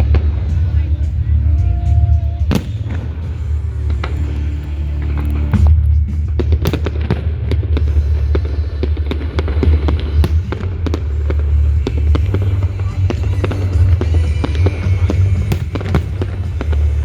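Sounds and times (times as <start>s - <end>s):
firework bangs and crackles: 0.0s - 17.0s
steady low rumble: 0.0s - 17.0s.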